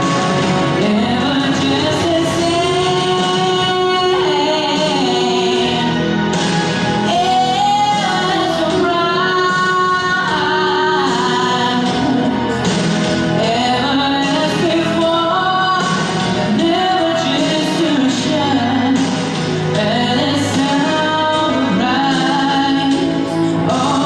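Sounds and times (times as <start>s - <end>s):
musical accompaniment: 0.0s - 24.0s
person singing: 0.0s - 24.0s.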